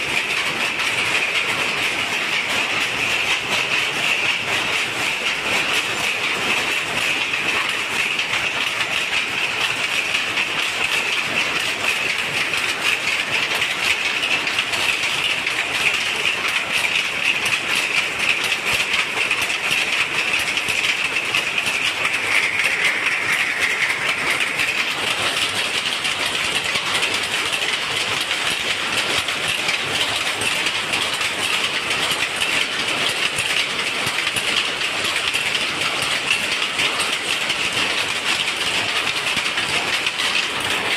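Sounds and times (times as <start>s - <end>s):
power looms clattering: 0.0s - 40.9s.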